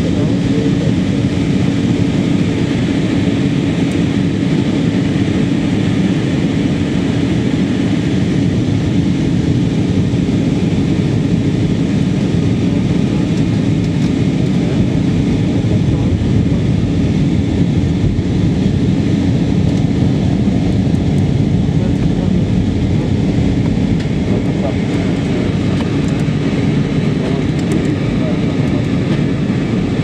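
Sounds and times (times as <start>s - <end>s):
airliner cabin engine and airflow rush: 0.0s - 30.0s
constant low hum: 0.0s - 30.0s.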